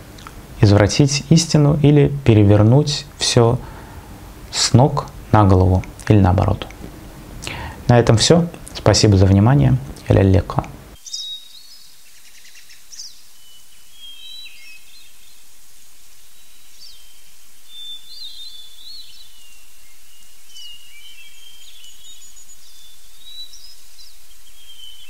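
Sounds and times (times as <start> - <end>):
small birds chirping: 0.0 - 15.5, 16.1 - 25.0
outdoor hiss: 0.0 - 25.0.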